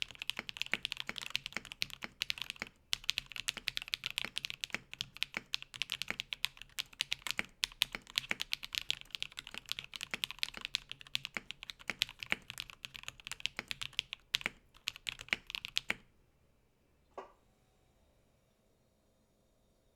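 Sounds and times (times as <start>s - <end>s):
fast mechanical keyboard typing: 0.0s - 16.0s.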